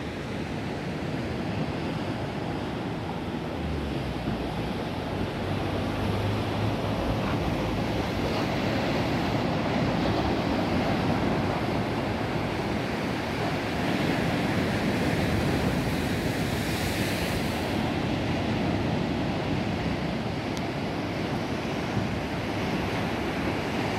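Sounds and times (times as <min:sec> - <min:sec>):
waves breaking on rocky shore: 0:00.0 - 0:23.9.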